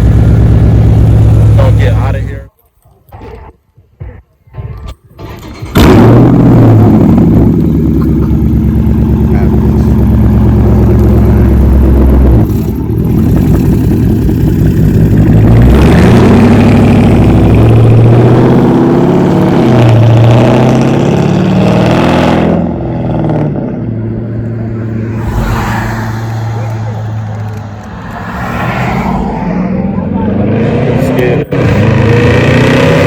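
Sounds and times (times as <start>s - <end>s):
car engine revving and idling: 0.0s - 2.5s, 4.7s - 33.0s.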